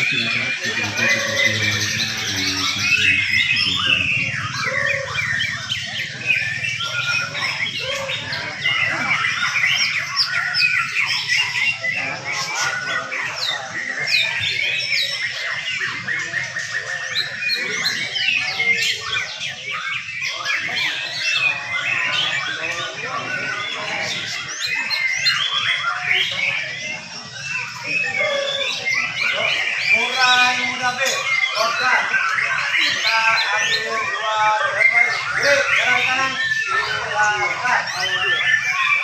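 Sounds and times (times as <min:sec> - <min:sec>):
birds singing whistled phrases: 0:00.0 - 0:39.0.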